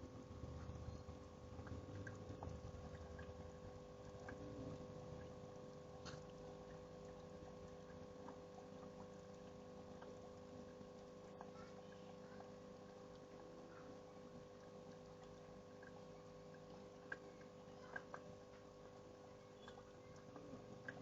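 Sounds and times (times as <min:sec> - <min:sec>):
steady hum: 0:00.0 - 0:21.0
small ticks: 0:04.0 - 0:21.0.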